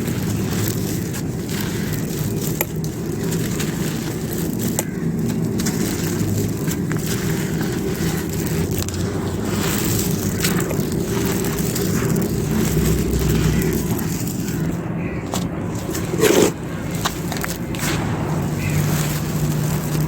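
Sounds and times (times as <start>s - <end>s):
clay pot pieces crushed: 0.0s - 20.0s.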